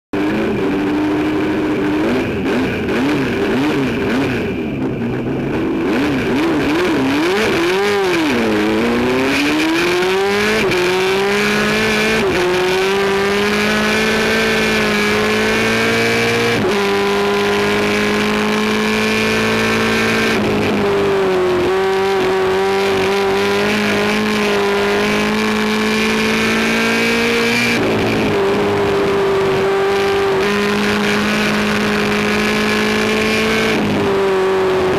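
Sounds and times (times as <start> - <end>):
race car engine revving: 0.2 - 34.9.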